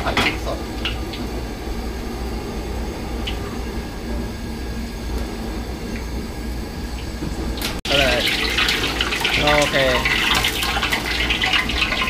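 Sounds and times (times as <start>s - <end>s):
gas burner rumble and hiss: 0.0s - 12.0s.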